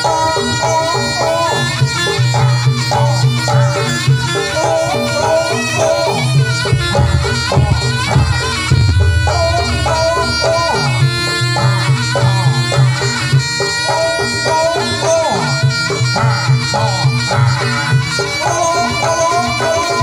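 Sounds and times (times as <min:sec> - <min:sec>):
nasal reed trumpet melody: 0:01.9 - 0:20.0
percussion strokes: 0:02.3 - 0:20.0.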